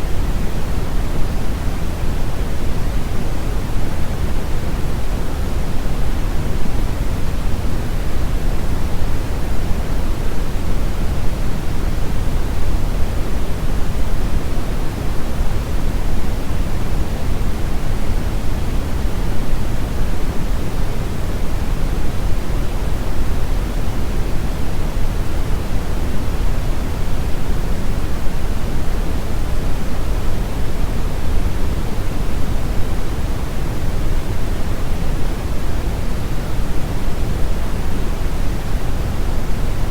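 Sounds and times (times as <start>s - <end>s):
steady noise with low rumble: 0.0s - 39.9s.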